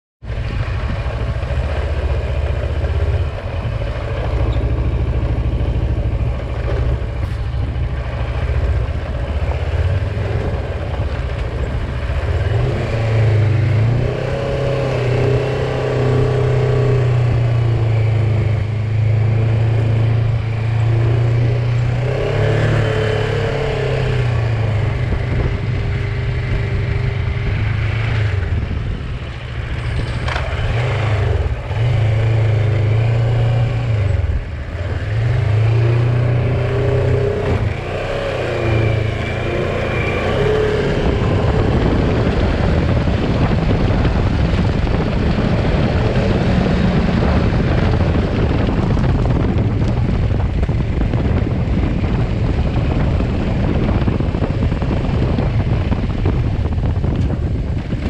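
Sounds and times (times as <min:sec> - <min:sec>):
motorcycle engine running: 0:00.2 - 0:58.0.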